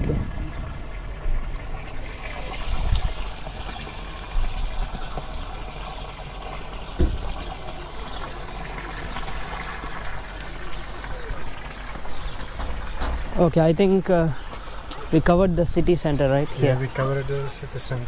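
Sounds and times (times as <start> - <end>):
fountain water splashing into basin: 0.0 - 16.2.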